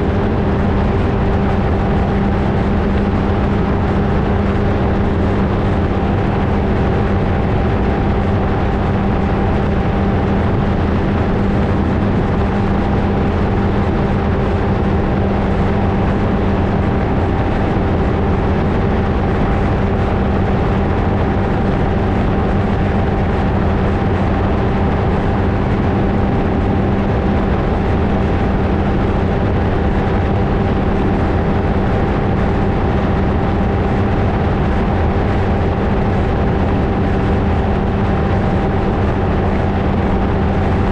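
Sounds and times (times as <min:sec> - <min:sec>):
ultralight engine and propeller drone: 0:00.0 - 0:40.9
wind rushing on microphone: 0:00.0 - 0:40.9.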